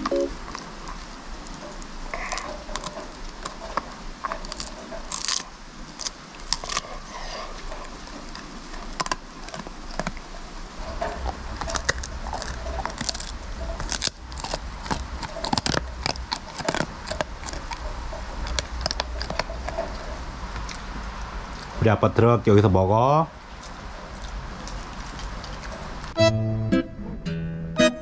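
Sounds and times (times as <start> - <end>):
puppy crunching chew stick: 0.0 - 21.8, 23.4 - 26.2.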